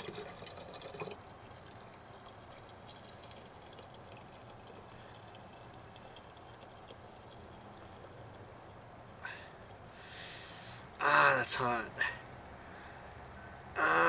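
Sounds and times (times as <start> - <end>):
water trickling into plastic bottle: 0.0 - 11.0, 12.3 - 13.3.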